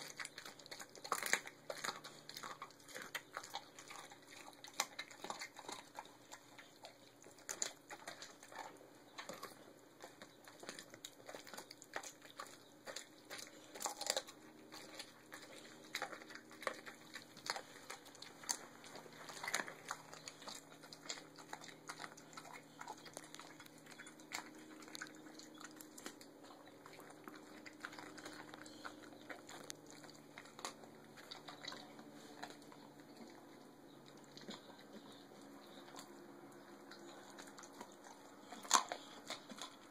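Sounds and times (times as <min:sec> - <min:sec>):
dog chewing meat and bone: 0:00.0 - 0:39.9.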